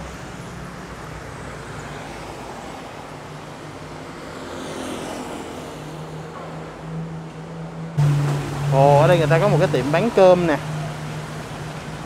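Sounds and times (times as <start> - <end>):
traffic hum: 0.0 - 12.0.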